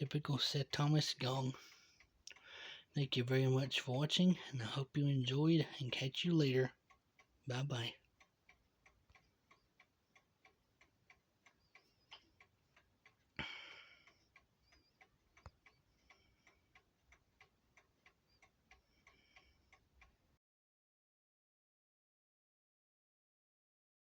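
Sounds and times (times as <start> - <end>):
clock ticking faintly: 0.0 - 20.4.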